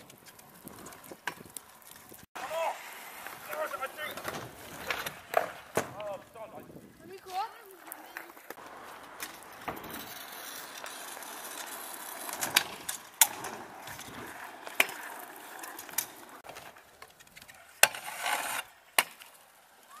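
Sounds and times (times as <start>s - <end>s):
scooter deck clacking on ground: 0.0s - 2.2s, 3.2s - 6.2s, 7.2s - 19.4s
scooter scraping: 0.0s - 20.0s
scooter wheels rolling on asphalt: 0.0s - 20.0s.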